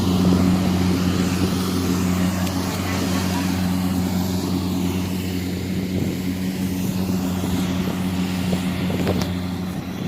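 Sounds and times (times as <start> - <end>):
diesel engine running steadily: 0.0 - 10.0.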